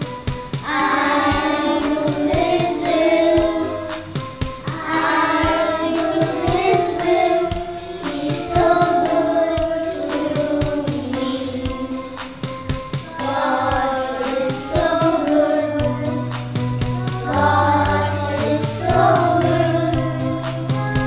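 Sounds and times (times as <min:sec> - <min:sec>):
backing track with beat: 0:00.0 - 0:21.0
children singing: 0:00.6 - 0:21.0.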